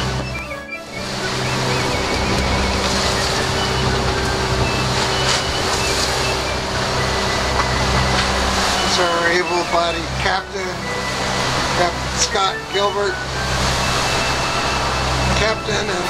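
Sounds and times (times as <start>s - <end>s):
boat engine running: 0.0s - 16.0s
water rushing against hull: 0.0s - 16.0s.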